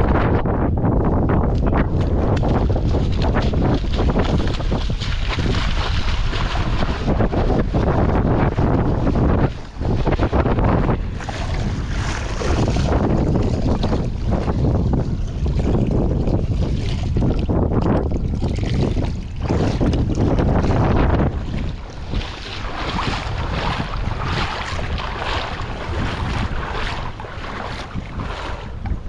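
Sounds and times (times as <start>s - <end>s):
wind buffeting microphone: 0.0s - 29.0s
water splashing and lapping: 1.0s - 29.0s.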